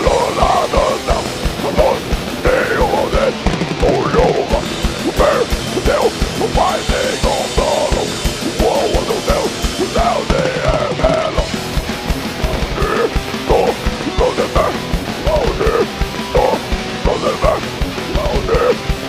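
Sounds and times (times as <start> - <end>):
harsh shouted vocals: 0.0 - 19.0
heavy metal band playing: 0.0 - 19.0.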